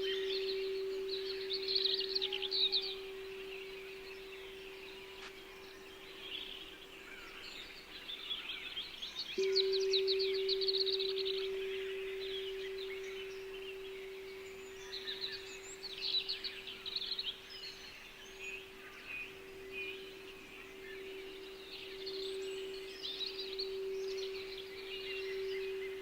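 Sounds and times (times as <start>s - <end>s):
sustained tone: 0.0s - 6.8s, 9.4s - 26.0s
songbirds chirping and trilling: 0.0s - 26.0s.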